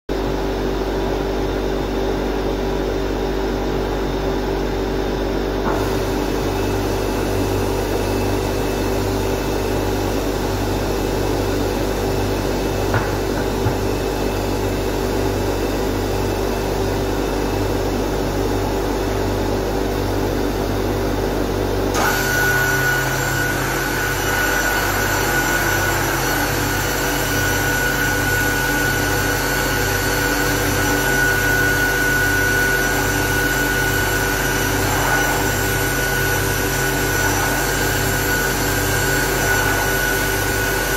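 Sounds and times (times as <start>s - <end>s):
machinery humming: 1.2s - 40.9s.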